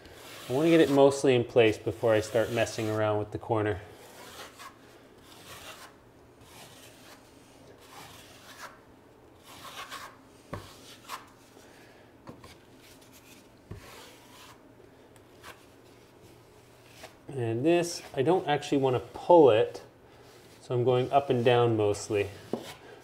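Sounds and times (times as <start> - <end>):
taping knife scraping compound: 0.0 - 11.6, 12.4 - 14.6, 15.2 - 23.0.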